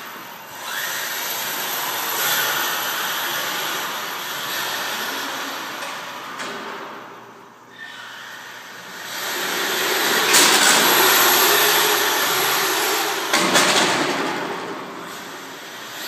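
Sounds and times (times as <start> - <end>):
rc car motor whine: 0.0 - 6.4, 7.7 - 16.0.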